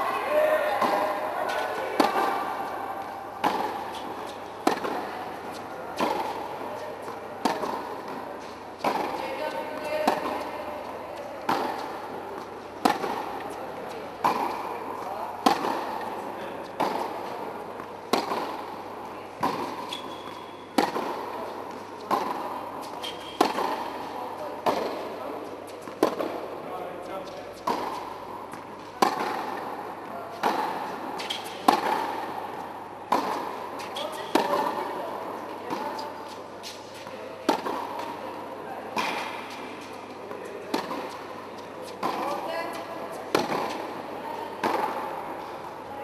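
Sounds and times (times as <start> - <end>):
racket striking tennis ball: 0.2 - 45.7.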